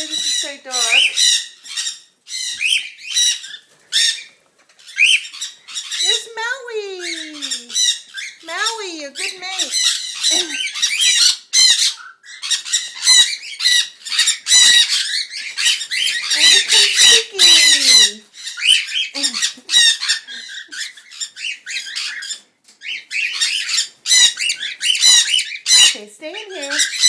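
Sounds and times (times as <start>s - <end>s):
cockatiels squawking: 0.0s - 27.0s.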